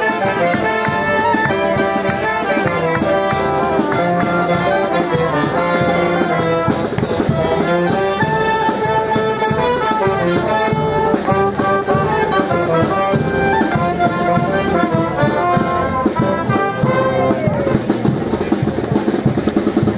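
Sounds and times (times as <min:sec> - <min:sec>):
trombone slide: 0:00.0 - 0:18.1
brass band playing: 0:00.0 - 0:19.9.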